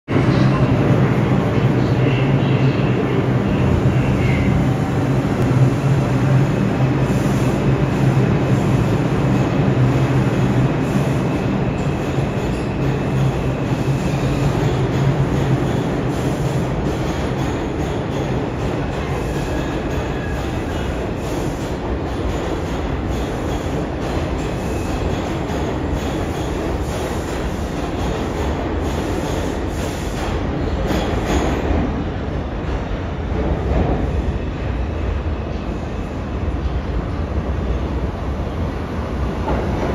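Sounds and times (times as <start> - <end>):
subway train on track: 0.0 - 39.9.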